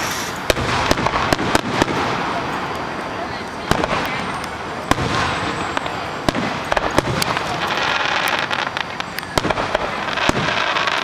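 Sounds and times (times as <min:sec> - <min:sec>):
fireworks crackling: 0:00.0 - 0:11.0
fireworks shells bursting bangs: 0:00.0 - 0:11.0.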